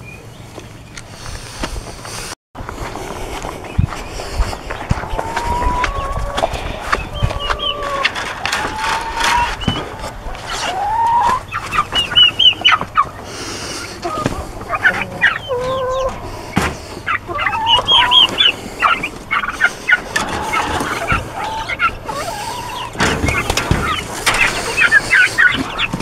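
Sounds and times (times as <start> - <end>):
hens clucking and chirping: 2.8 - 26.0.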